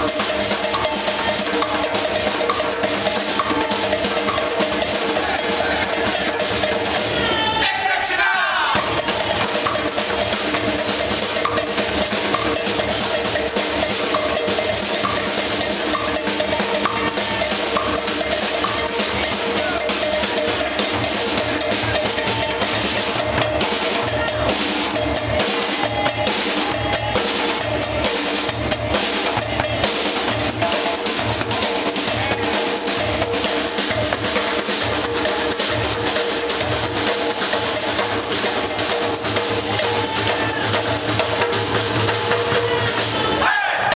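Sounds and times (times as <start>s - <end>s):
drum group playing fast rhythm: 0.0s - 43.9s.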